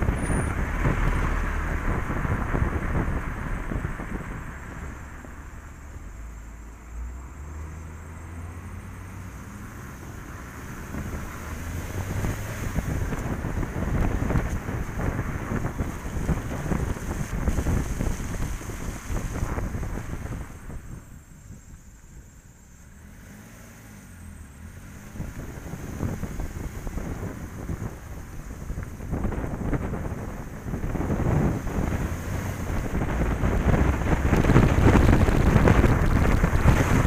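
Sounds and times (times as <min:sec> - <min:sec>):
wind rushing over microphone: 0:00.0 - 0:06.6, 0:08.7 - 0:22.3, 0:24.6 - 0:37.0
car road and engine rumble: 0:00.0 - 0:37.0.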